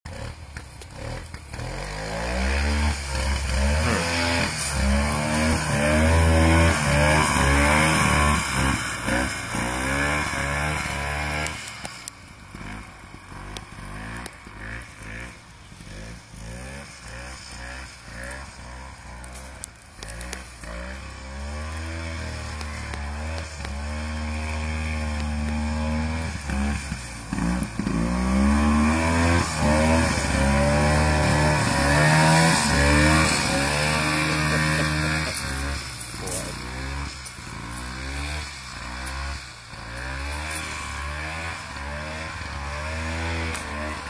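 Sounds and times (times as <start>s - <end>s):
snowmobile engine revving: 0.1s - 44.0s.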